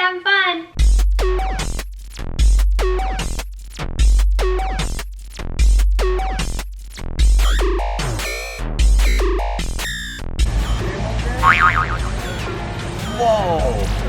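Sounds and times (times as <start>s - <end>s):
deep bass hits: 0.8s - 12.6s
electronic music: 0.8s - 13.3s.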